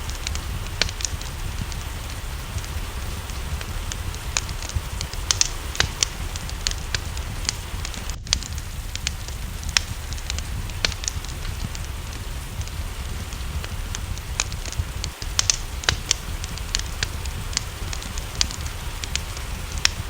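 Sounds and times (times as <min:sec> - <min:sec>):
rain hissing: 0:00.0 - 0:20.0
wood fire crackling and popping: 0:00.0 - 0:20.0.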